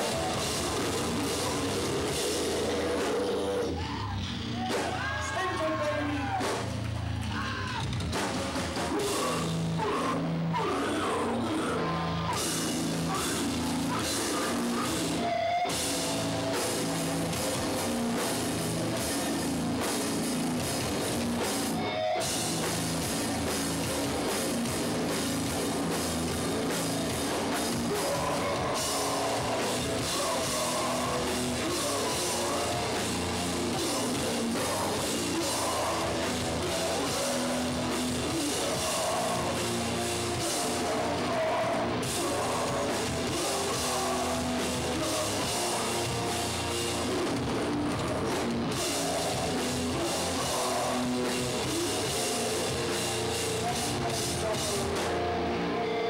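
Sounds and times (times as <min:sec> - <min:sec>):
live punk band playing: 0:00.0 - 0:56.0.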